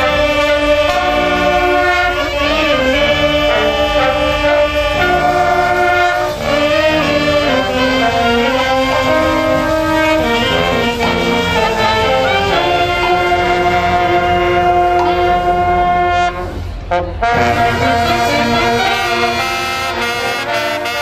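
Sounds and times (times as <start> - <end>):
saxophones and brass chords: 0.0 - 21.0.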